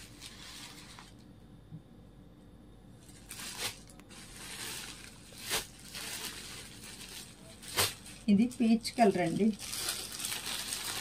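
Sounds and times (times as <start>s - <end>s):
packaging rustling and crinkling: 0.0s - 1.2s, 3.0s - 11.0s.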